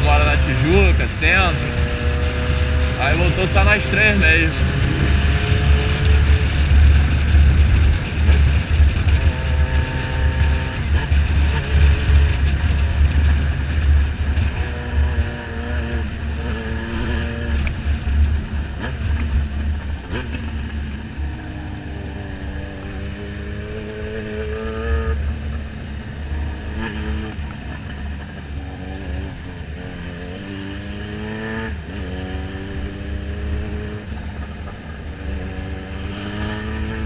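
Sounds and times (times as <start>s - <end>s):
motorcycle engine: 0.0s - 37.0s
wind rumble on microphone: 0.0s - 37.0s.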